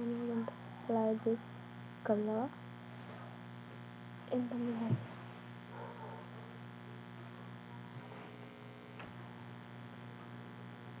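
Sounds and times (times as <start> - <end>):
electric fan humming: 0.0 - 11.0.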